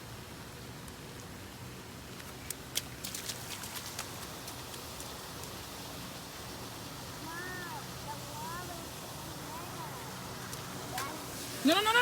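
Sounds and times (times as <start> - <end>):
steady rain falling: 0.8 - 12.0.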